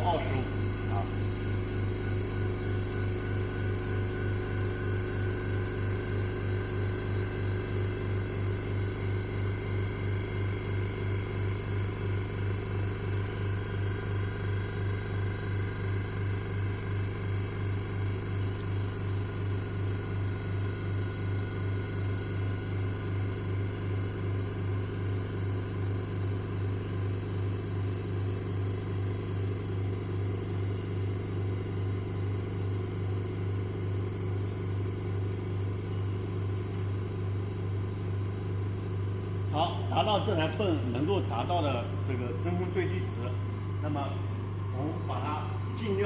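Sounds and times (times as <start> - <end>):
vacuum pump hum with pulsing beat: 0.0 - 46.0.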